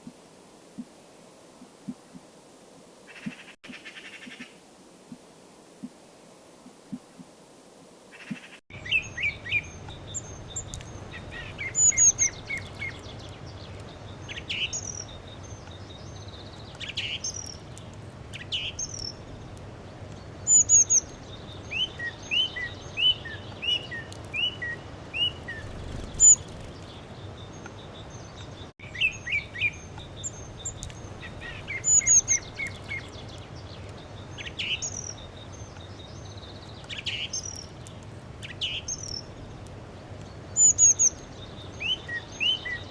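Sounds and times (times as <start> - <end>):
steady background hiss: 0.0 - 42.9
songbirds singing and chirping: 8.2 - 42.9.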